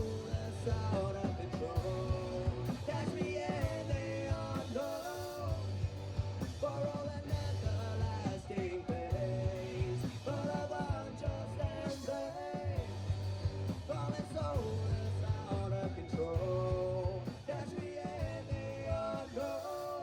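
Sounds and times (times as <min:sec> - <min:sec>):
rock song with singing: 0:00.0 - 0:20.0.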